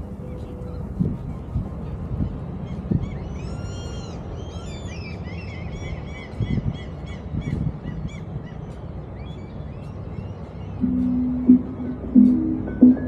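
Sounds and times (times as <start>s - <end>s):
birds calling: 0.0s - 13.0s
low background rumble: 0.0s - 13.0s.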